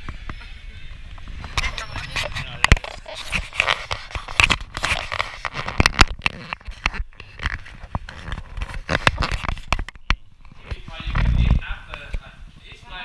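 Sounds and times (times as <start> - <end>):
camera handling noise: 1.4 - 12.2.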